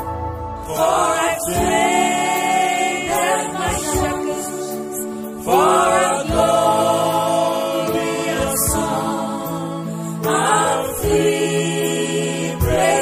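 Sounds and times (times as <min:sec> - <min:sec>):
choir singing in harmony: 0:00.0 - 0:13.0
electronic keyboard: 0:00.0 - 0:13.0.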